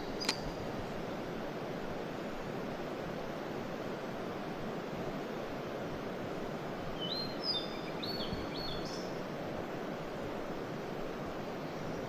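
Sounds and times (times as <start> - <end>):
rushing mountain stream: 0.0 - 12.0.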